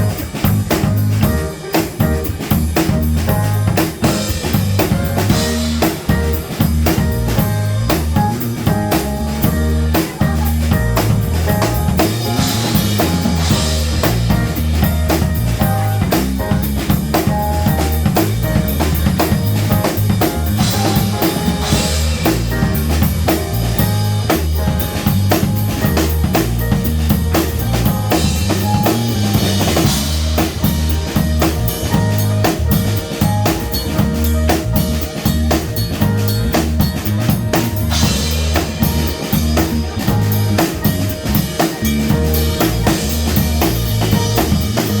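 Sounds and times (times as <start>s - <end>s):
bass line: 0.0s - 45.0s
drum-kit groove: 0.0s - 45.0s
jazz-funk band playing: 0.0s - 45.0s.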